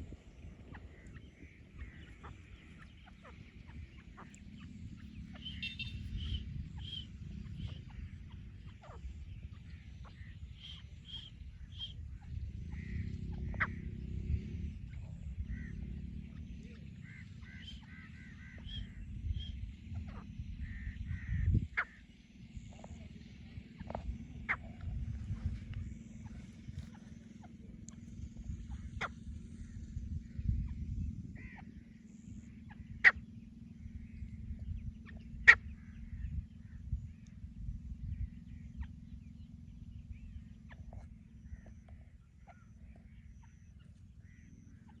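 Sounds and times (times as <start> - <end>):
low rumble: 0.0 - 44.9
francolin calling: 0.0 - 45.0.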